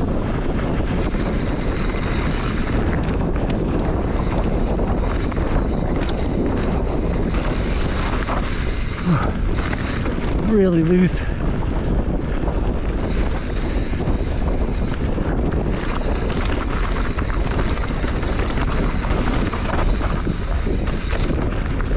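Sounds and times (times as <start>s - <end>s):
bike and stones rattling: 0.0s - 21.9s
bike tyres on loose dirt: 0.0s - 21.9s
wind buffeting microphone: 0.0s - 21.9s.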